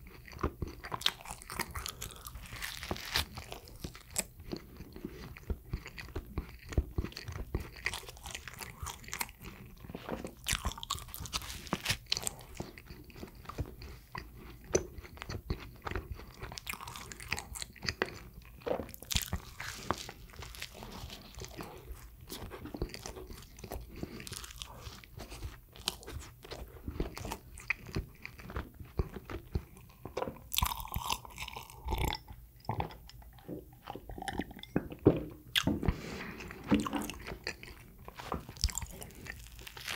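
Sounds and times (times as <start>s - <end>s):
person chewing bread: 0.0s - 39.9s.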